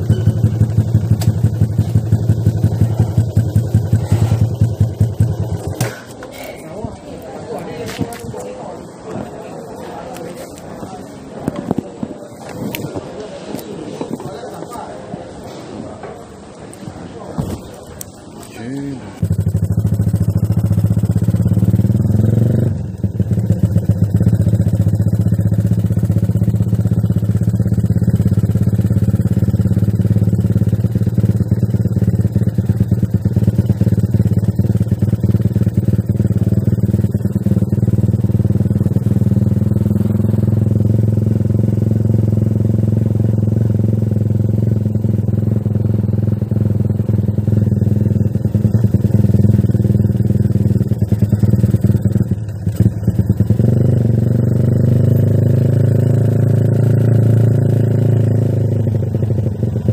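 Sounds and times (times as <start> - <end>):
motorcycle engine and exhaust: 0.0 - 59.9.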